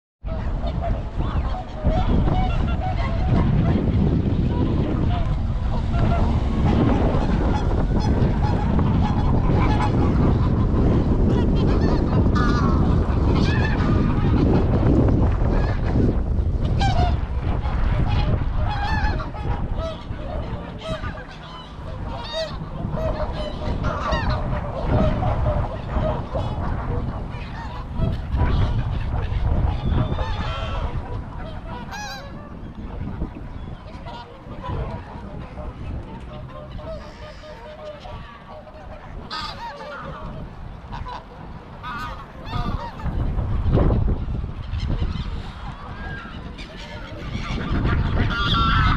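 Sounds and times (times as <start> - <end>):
wind rumbling on microphone: 0.2 - 48.9
geese honking: 0.3 - 48.9.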